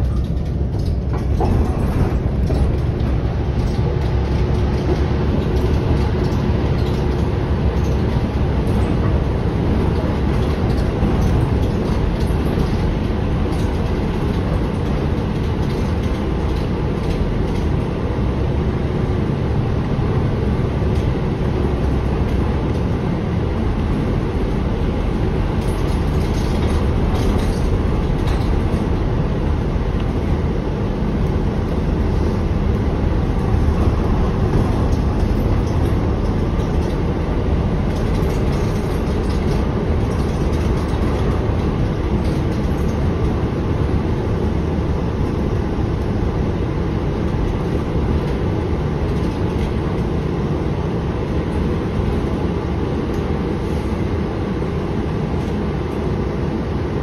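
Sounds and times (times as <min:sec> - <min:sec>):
bus drivetrain rumble: 0:00.0 - 0:57.0
road and tyre noise: 0:00.0 - 0:57.0.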